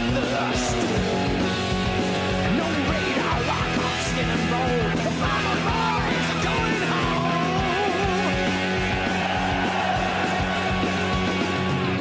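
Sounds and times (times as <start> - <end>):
heavy metal music: 0.0 - 12.0.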